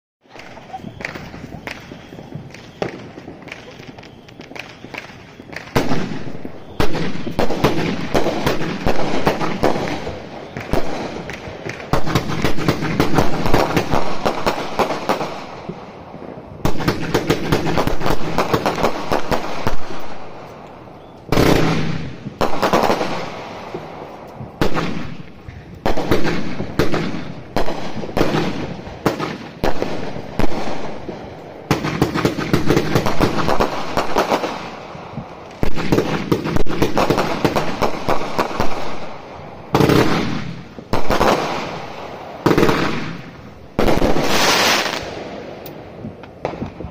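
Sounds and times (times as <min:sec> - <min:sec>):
firework shots bursting: 0:00.2 - 0:46.9.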